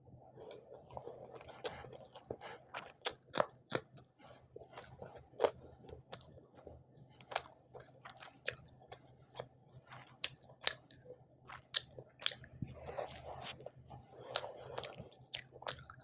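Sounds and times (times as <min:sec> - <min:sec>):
close chewing with mouth smacks: 0:00.4 - 0:16.0.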